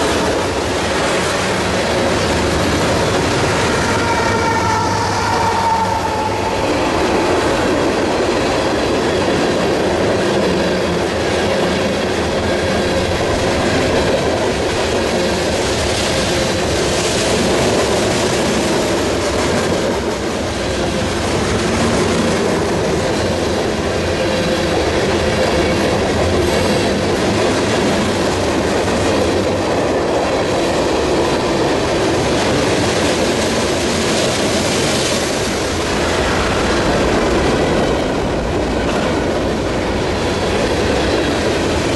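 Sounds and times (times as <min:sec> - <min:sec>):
freight train wheels rumbling on rails: 0:00.0 - 0:41.9.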